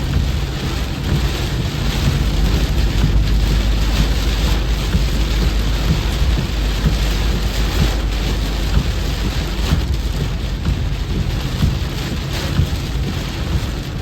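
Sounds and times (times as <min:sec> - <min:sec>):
continuous low rumble: 0:00.0 - 0:14.0
heavy rain hissing: 0:00.0 - 0:14.0.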